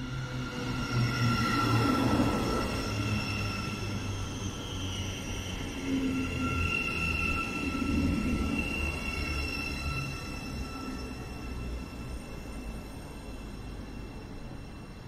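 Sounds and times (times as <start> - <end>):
electric train high whine: 0.0 - 15.0.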